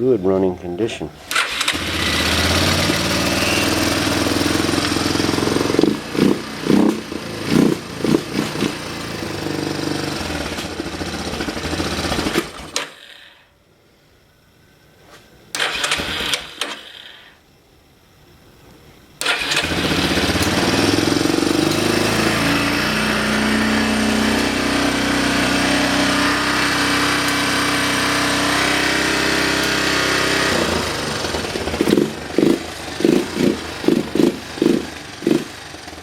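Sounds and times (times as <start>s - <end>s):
loud engine bursts: 1.2s - 13.5s, 15.6s - 17.3s, 19.2s - 36.0s
quad bike engine starting and idling: 1.2s - 13.5s, 15.5s - 17.3s, 19.2s - 36.0s.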